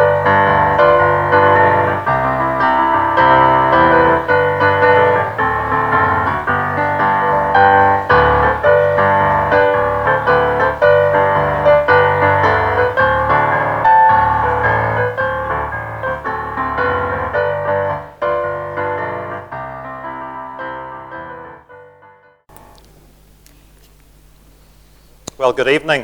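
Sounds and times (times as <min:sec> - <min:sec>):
slow quiet piano piece: 0:00.0 - 0:25.2.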